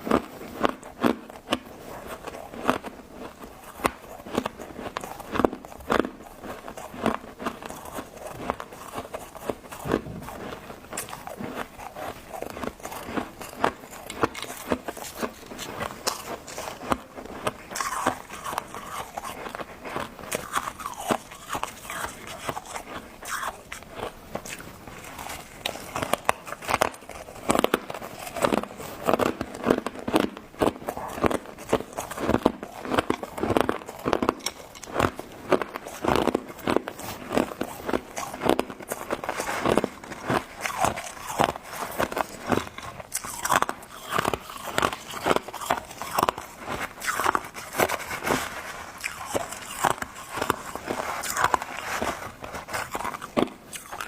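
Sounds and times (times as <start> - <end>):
ice being bitten and chewed: 0.0 - 54.0.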